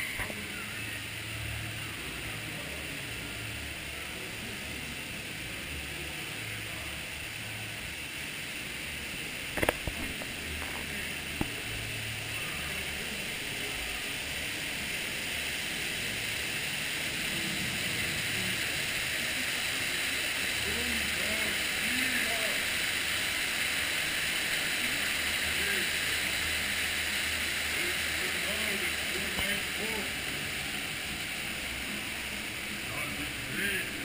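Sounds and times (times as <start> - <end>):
water rushing around boat: 0.0 - 34.0.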